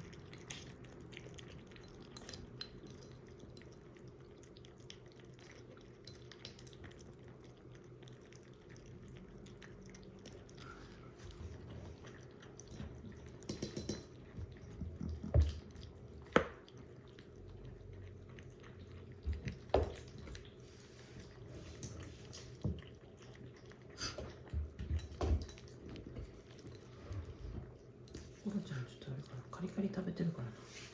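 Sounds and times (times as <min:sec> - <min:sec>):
kitten crunching dry kibble: 0:00.0 - 0:13.5, 0:14.1 - 0:30.8.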